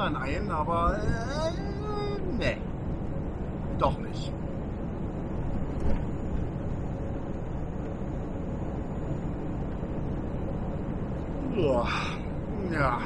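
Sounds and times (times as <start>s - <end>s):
truck engine and tyres on wet road: 1.8s - 13.0s.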